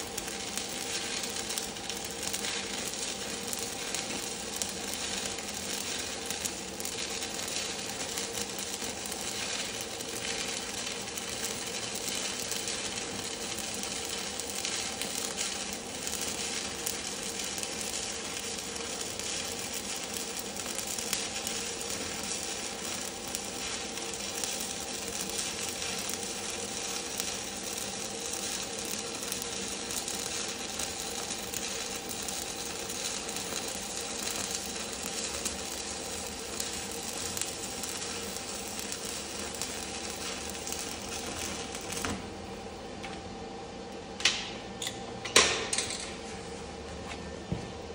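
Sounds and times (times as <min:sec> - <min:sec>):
welding arc burning: 0:00.0 - 0:42.8.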